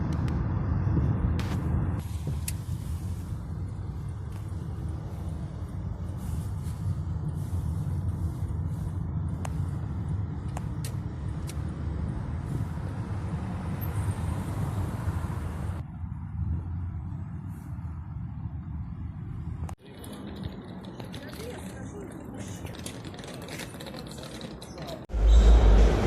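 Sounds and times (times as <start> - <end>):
vehicle rumble from inside: 0.0 - 22.9, 23.7 - 26.0.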